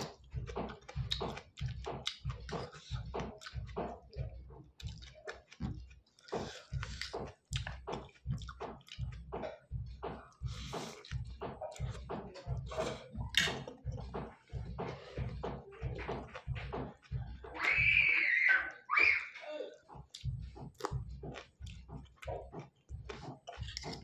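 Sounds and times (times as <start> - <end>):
wet chewing and slurping: 0.0 - 9.6, 10.3 - 17.7, 19.8 - 24.0.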